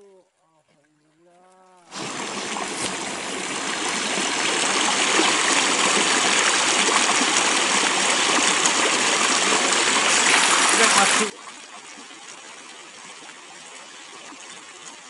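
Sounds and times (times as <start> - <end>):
flowing water hiss: 1.9 - 15.0.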